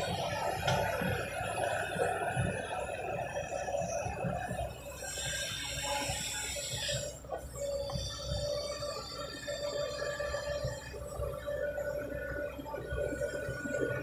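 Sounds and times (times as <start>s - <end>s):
excavator engine and hydraulics: 0.0s - 14.0s.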